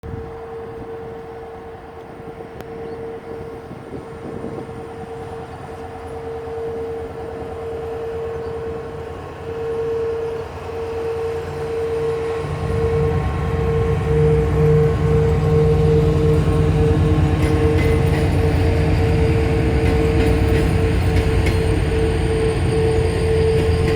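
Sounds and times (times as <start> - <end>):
deep locomotive engine rumble: 0.0 - 23.9
steady whine: 0.1 - 23.9.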